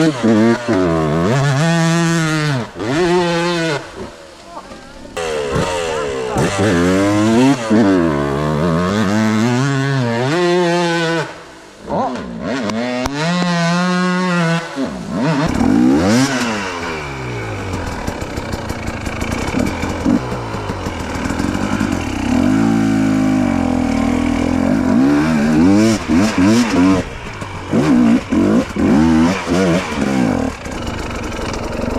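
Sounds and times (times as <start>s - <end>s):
two-stroke dirt bike engine revving: 0.0s - 31.9s.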